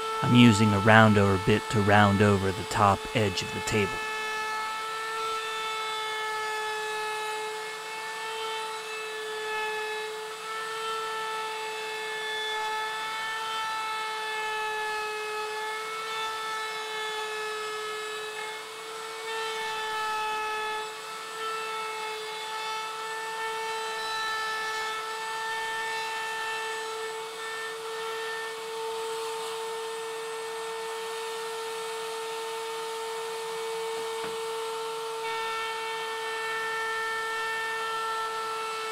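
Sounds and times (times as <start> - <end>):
router cutting wood: 0.0 - 38.9.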